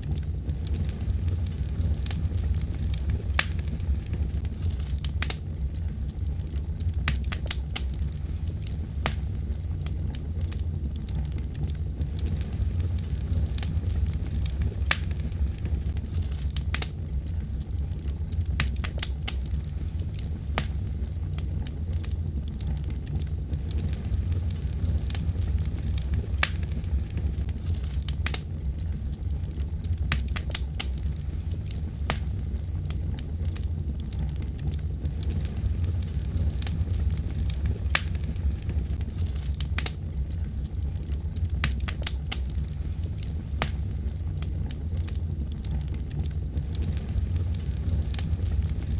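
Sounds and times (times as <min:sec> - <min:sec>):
fire crackling: 0:00.0 - 0:48.9
fire popping and snapping: 0:00.0 - 0:48.9
flame rumble: 0:00.0 - 0:48.9.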